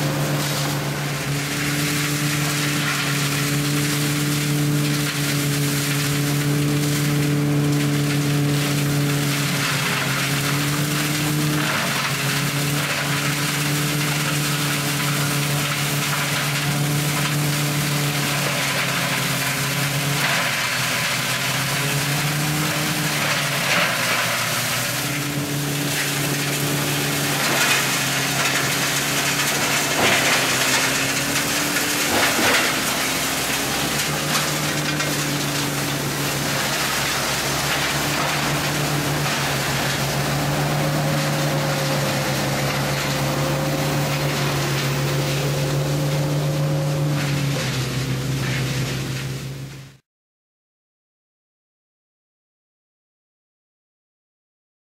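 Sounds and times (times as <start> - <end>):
wood crackling and snapping: 0.0 - 49.6
tractor and shredder rotor humming: 0.0 - 50.0.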